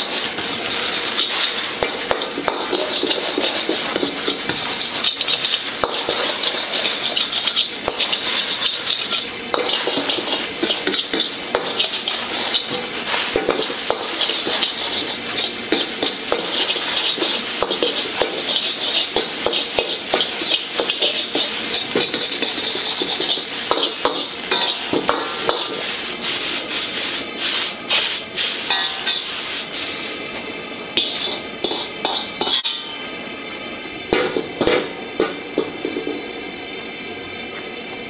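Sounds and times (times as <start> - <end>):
metal spatula scraping a pan: 0.0 - 25.9, 26.7 - 30.0, 31.0 - 33.1
eggs sizzling in a wok: 0.0 - 38.0.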